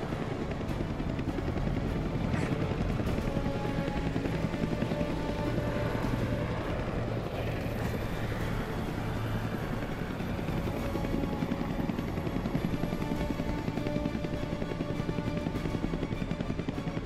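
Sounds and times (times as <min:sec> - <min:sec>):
film score music: 0:00.0 - 0:17.0
helicopter rotor chopping: 0:00.0 - 0:17.0.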